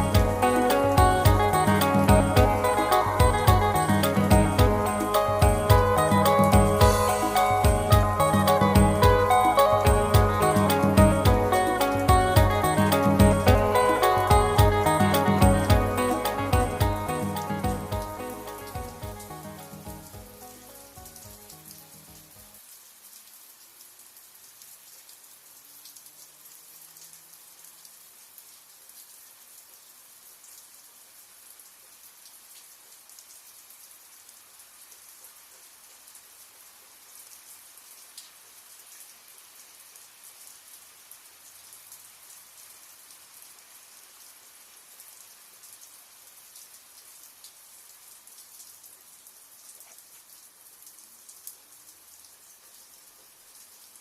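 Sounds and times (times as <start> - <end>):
light rain hissing: 0.0 - 54.0.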